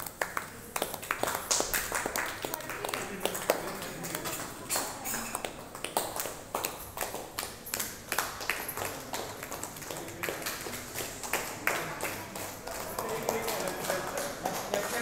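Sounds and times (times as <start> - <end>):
people clapping: 0.0 - 15.0.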